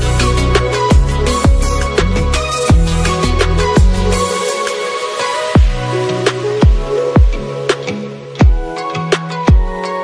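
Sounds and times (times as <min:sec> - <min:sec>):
electronic music with synth tones: 0:00.0 - 0:10.0.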